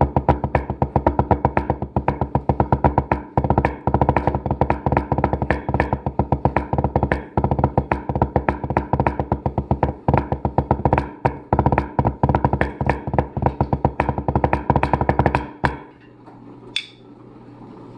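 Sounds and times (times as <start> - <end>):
drumsticks on practice pad: 0.0 - 15.9.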